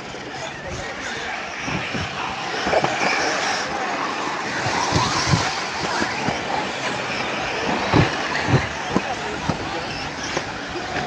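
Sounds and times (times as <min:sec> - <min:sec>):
rc car motor and tyre noise: 0:00.0 - 0:11.0.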